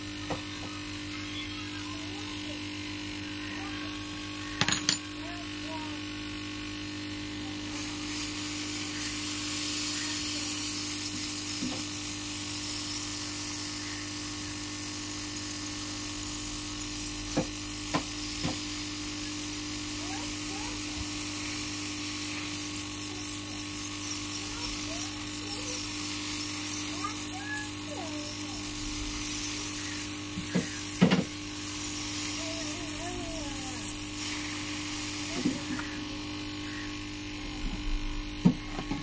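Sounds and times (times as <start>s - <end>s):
hot-air gun blowing hum and hiss: 0.0s - 39.0s.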